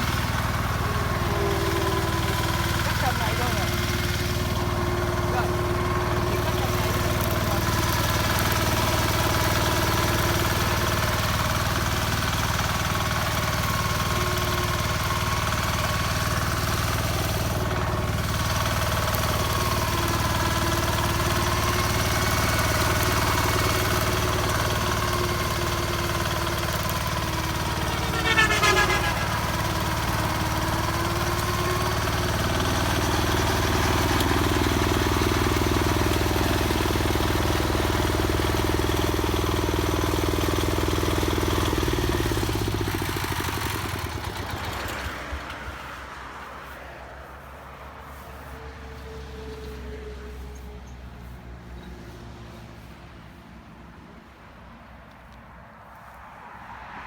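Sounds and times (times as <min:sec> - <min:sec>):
mower diesel engine idling: 0:00.0 - 0:51.4.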